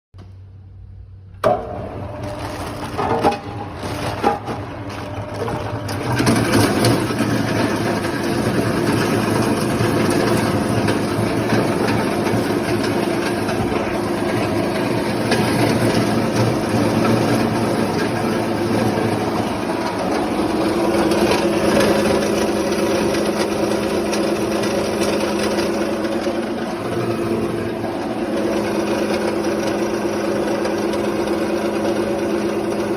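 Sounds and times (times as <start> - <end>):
crusher machine droning: 0.2 - 32.9.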